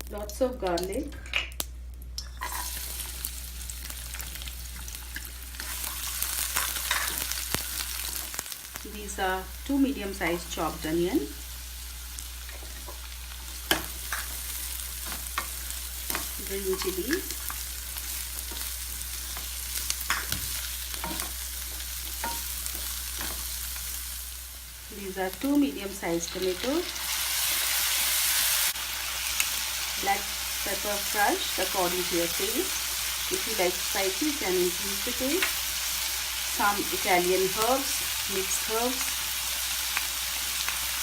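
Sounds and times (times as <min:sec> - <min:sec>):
garlic sizzling in oil: 0:02.2 - 0:41.0.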